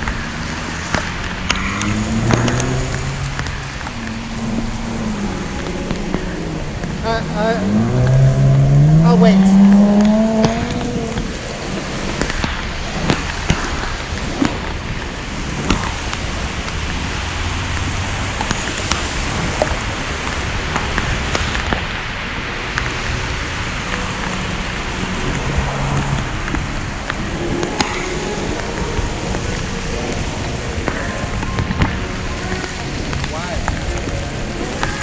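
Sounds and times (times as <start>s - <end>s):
raindrops tapping near microphone: 0.0s - 35.0s
steady rain: 0.0s - 35.0s.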